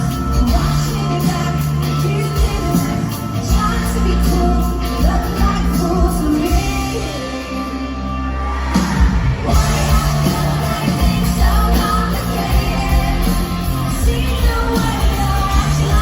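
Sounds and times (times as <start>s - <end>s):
live rock band with drums: 0.0s - 16.0s.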